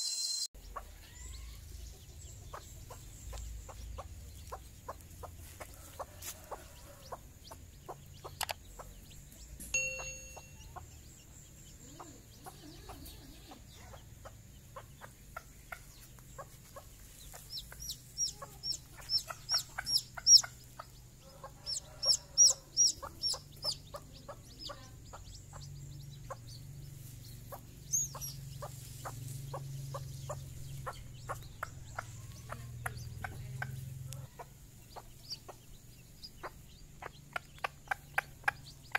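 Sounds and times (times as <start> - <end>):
hen clucking softly: 0.6 - 9.2, 11.7 - 38.9
chicks peeping: 0.6 - 38.9.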